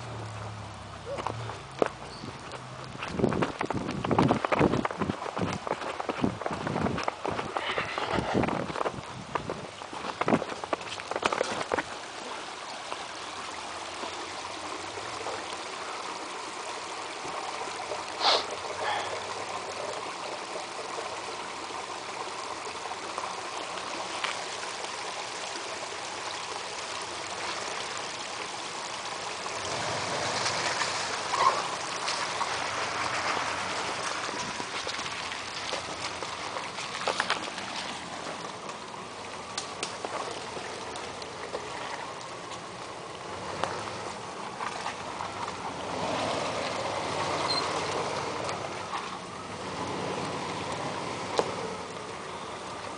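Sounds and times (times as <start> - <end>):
water trickling: 0.0 - 52.9.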